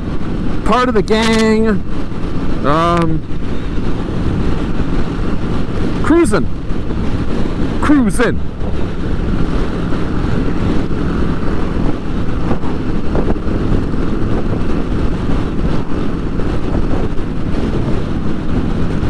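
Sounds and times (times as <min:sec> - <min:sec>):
motorcycle engine hum: 0:00.0 - 0:19.0
road noise: 0:00.0 - 0:19.0
wind buffeting: 0:00.0 - 0:19.0.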